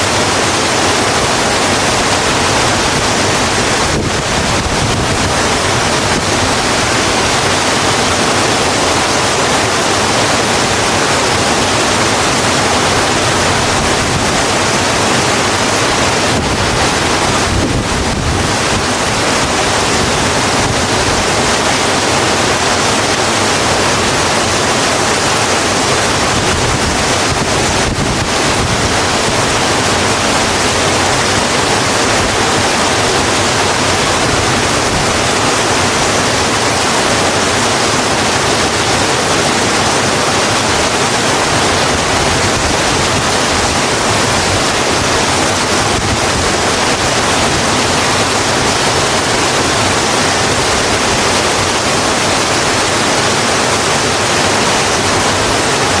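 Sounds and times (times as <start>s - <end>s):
heavy rain on road: 0.0s - 56.0s.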